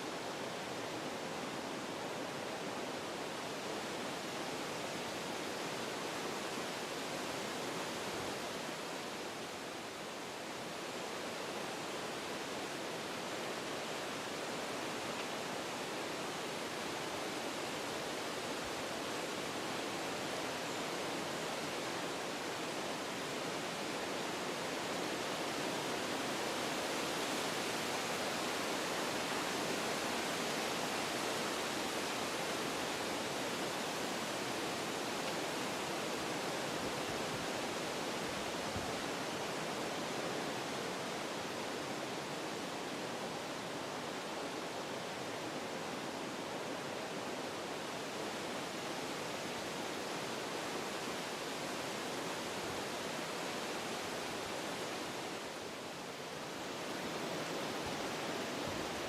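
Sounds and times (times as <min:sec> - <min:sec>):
wind through forest trees: 0:00.0 - 0:59.0.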